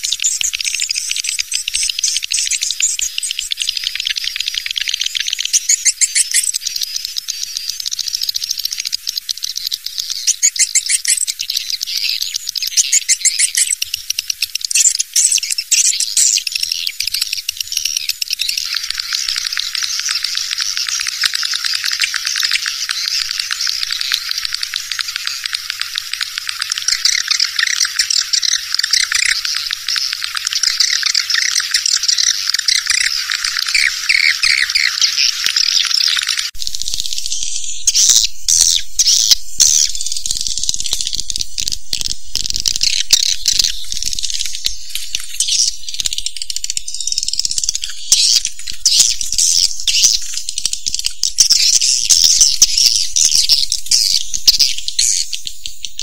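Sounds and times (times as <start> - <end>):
swiftlet twittering calls: 0.0 - 56.0.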